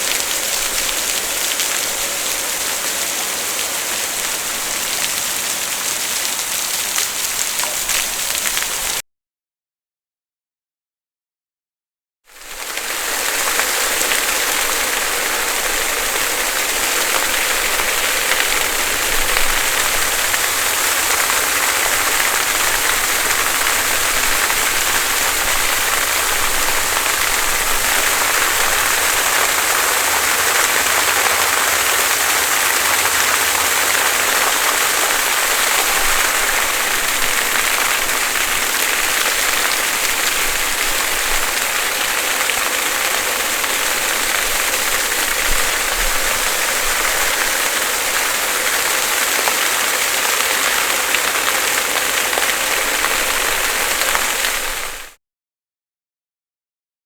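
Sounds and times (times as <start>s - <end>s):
water fountain splashing: 0.0s - 9.0s, 12.4s - 55.2s.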